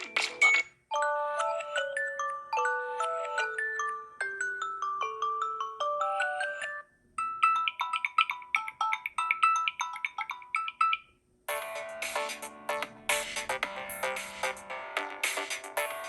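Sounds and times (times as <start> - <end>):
phone ringtone melodies: 0.0 - 16.0.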